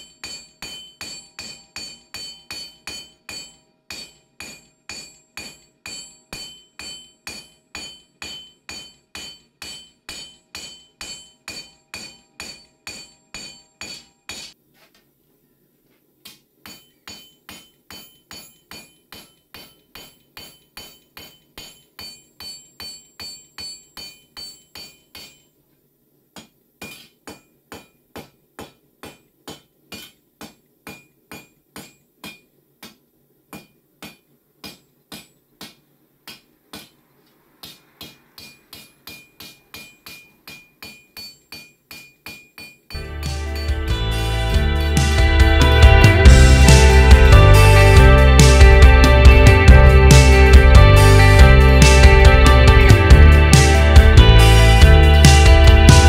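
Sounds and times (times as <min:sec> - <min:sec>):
hammer striking steel on anvil: 0:00.0 - 0:14.6, 0:16.6 - 0:25.5, 0:26.4 - 0:32.5, 0:37.6 - 0:56.0.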